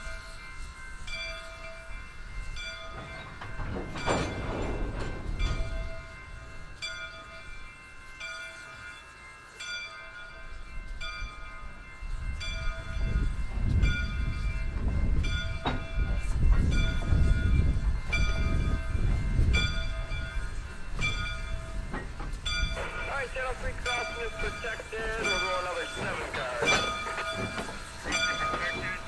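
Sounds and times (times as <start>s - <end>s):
steam locomotive bell ringing: 0.0s - 29.0s
steam locomotive running rumble: 0.0s - 29.0s.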